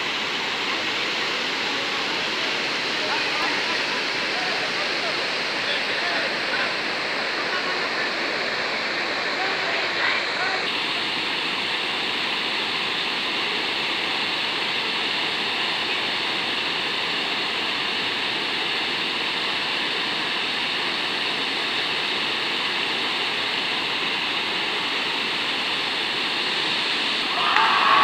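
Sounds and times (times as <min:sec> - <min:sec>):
water rushing over a weir: 0:00.0 - 0:28.0.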